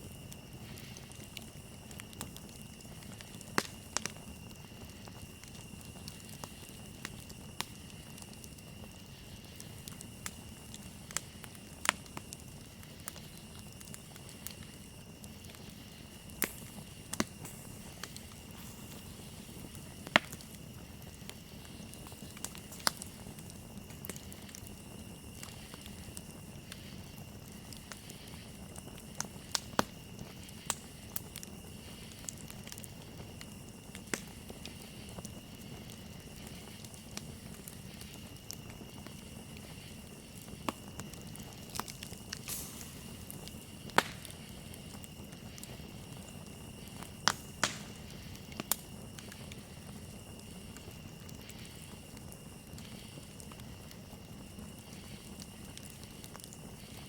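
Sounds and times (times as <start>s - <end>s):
campfire crackling: 0.0s - 57.0s
crickets chirring: 0.0s - 57.0s.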